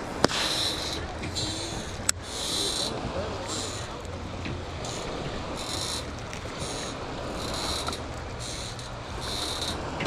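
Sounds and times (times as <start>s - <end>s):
boat motor drone: 0.0s - 10.0s.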